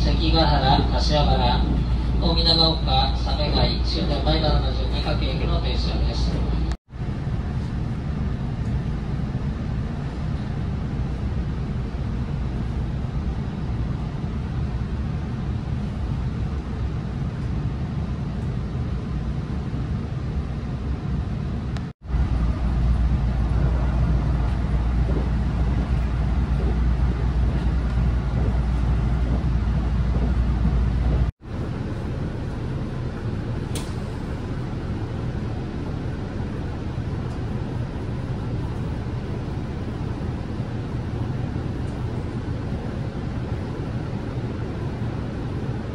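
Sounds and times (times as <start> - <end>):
train running rush and rumble: 0.0 - 45.9.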